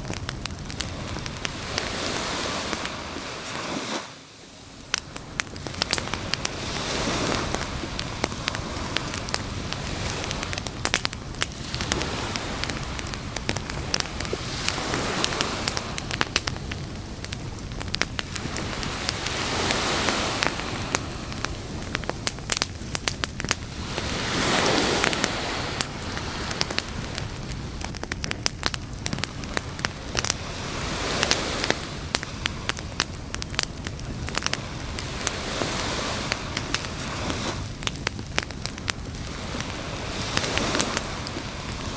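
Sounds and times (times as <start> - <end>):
campfire crackling and popping: 0.0 - 41.9
surf washing in: 0.0 - 41.9.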